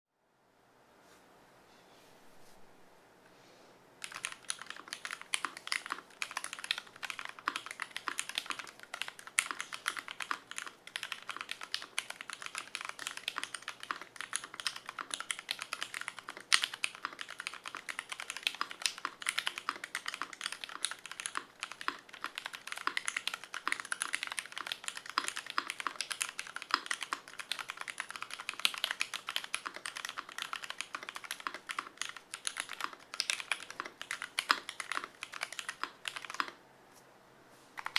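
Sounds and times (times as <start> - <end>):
mechanical keyboard typing: 4.0 - 36.6.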